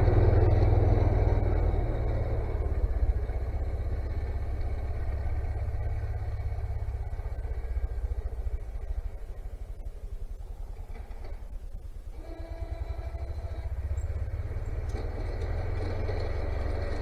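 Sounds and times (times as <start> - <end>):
engine running with low throb: 0.0 - 17.0.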